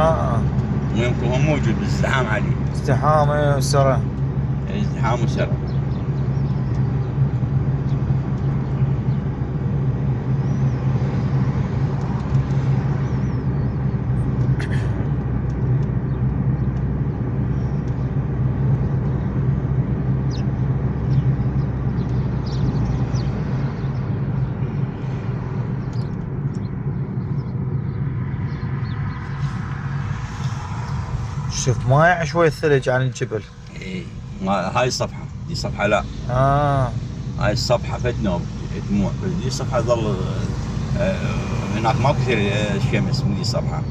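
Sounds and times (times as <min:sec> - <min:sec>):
car rumble from inside cabin: 0:00.0 - 0:43.9.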